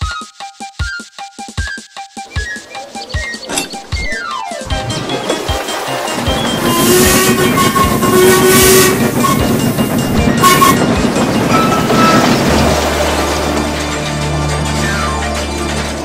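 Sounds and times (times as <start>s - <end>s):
train wheels clattering: 2.2s - 16.0s.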